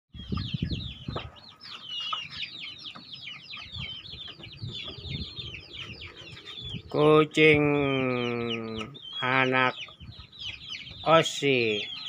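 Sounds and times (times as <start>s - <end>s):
many birds chirping: 0.1s - 12.0s.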